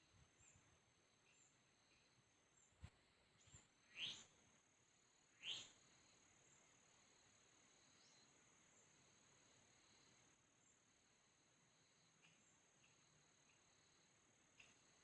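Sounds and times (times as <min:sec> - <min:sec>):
soft bird chirps: 0:00.0 - 0:11.0, 0:11.8 - 0:15.0.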